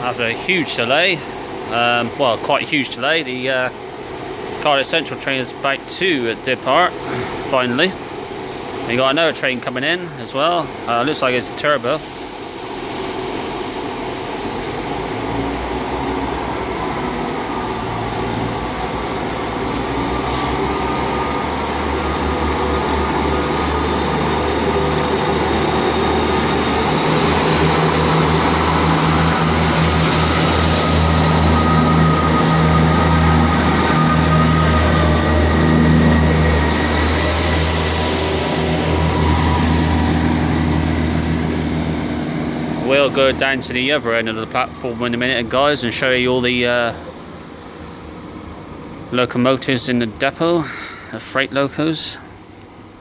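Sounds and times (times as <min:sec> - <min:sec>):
diesel train engines running: 0:00.0 - 0:53.0
high rising whine: 0:07.6 - 0:50.6.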